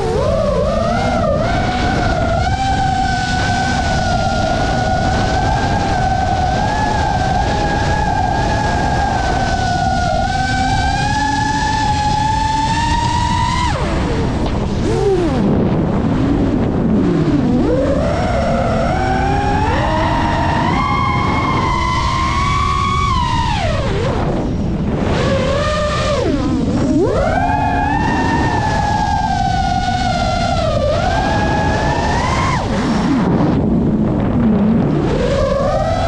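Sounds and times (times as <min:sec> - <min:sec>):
drone propellers whining: 0:00.0 - 0:36.0.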